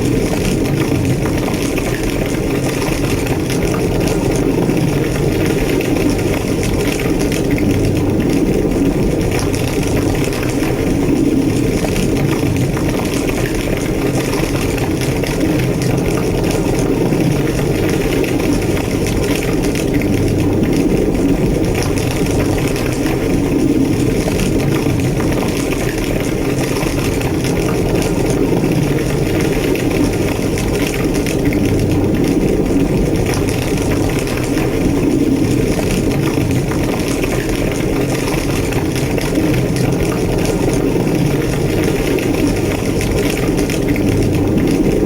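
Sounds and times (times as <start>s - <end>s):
fire crackling: 0.0s - 45.0s
fire roaring: 0.0s - 45.0s.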